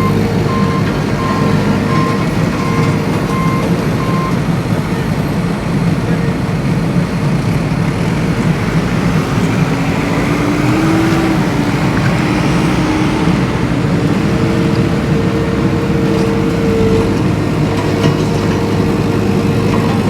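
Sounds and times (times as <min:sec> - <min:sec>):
engine-like rumble: 0:00.0 - 0:20.0.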